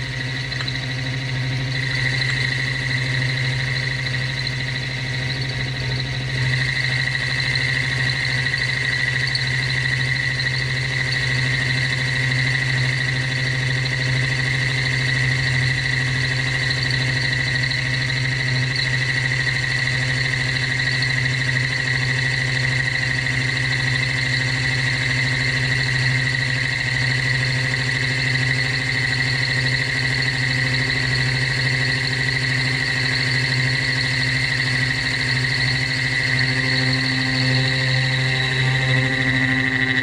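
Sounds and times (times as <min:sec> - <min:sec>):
machine tool hum and whine: 0:00.0 - 0:40.0.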